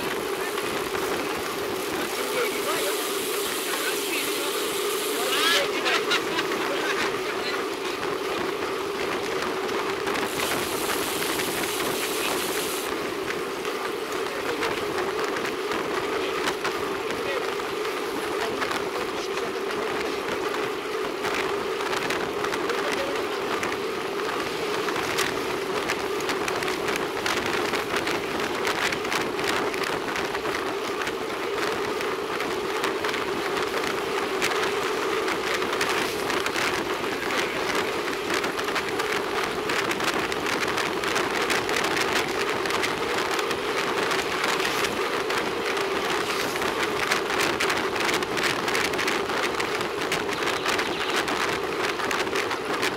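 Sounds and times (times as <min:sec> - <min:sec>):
bicycle road and wind noise: 0:00.0 - 0:52.9.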